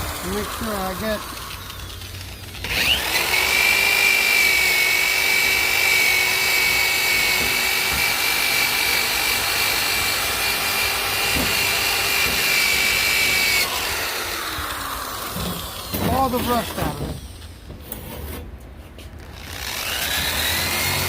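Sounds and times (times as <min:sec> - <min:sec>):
drill wire brush scrubbing metal: 0:00.0 - 0:17.4.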